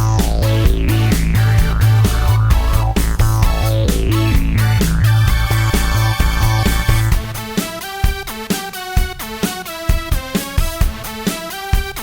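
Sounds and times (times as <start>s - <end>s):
upbeat music with bass and guitar: 0.0s - 12.0s.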